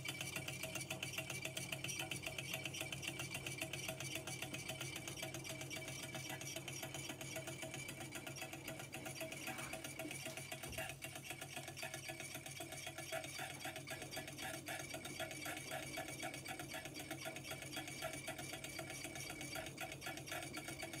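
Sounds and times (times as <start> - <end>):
small engine rapid ticking: 0.0 - 21.0.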